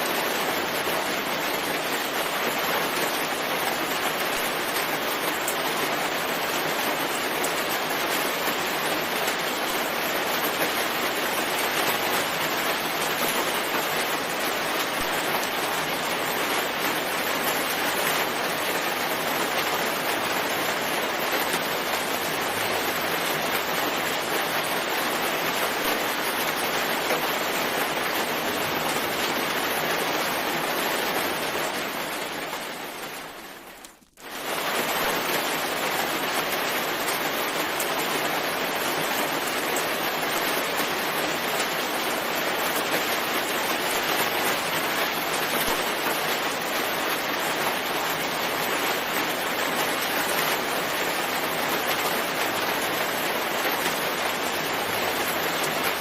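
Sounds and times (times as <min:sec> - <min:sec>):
dense rainfall hiss: 0:00.0 - 0:56.0.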